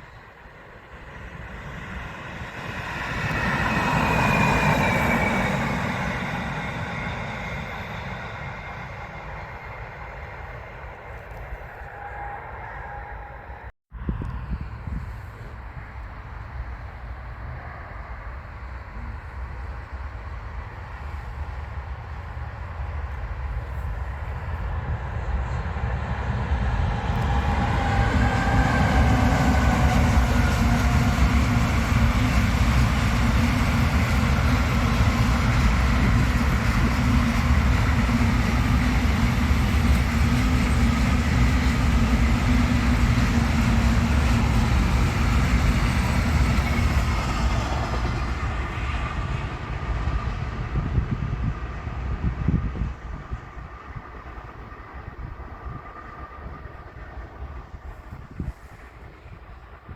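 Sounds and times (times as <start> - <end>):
train passing: 0.0 - 59.9
train whine: 0.0 - 59.9.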